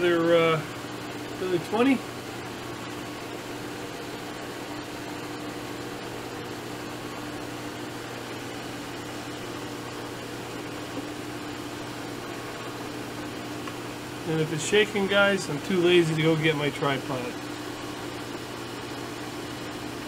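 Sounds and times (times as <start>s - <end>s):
milling machine humming: 0.0s - 20.0s.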